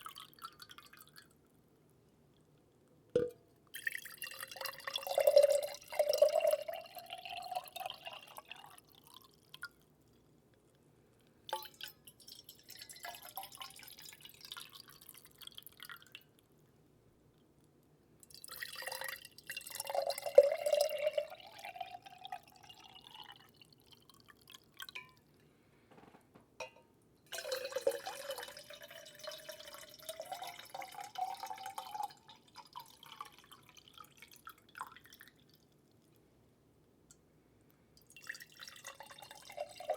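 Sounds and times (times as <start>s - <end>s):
water trickling into a vessel: 0.0s - 16.7s, 18.2s - 25.4s, 26.6s - 36.2s, 38.0s - 39.9s.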